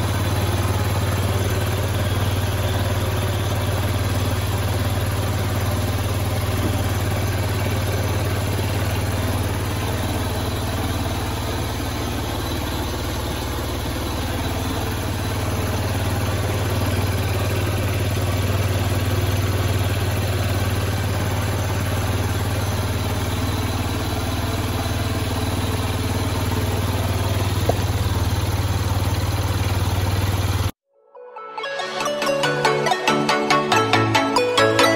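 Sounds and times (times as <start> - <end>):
small engine idling: 0.0 - 30.8.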